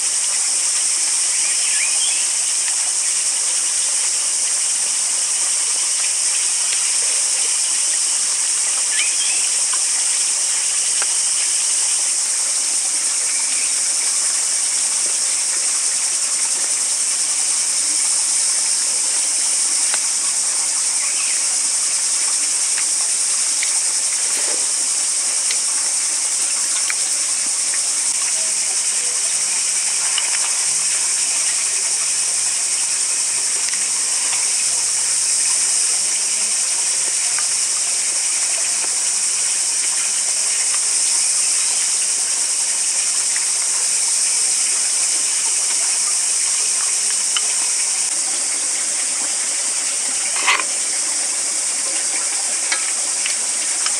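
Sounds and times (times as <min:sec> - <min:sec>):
insect chorus hiss: 0:00.0 - 0:53.9.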